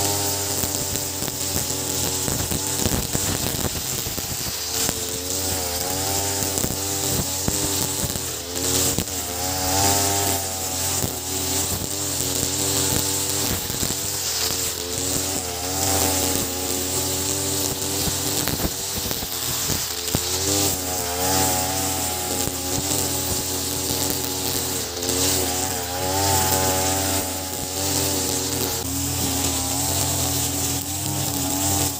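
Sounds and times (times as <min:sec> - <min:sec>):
brush cutter cutting grass: 0:00.0 - 0:31.9.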